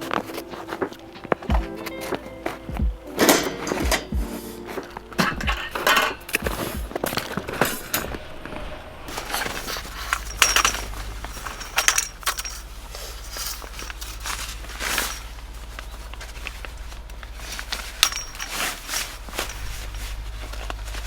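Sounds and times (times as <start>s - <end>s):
metal camping gear clinking: 0.0s - 21.0s.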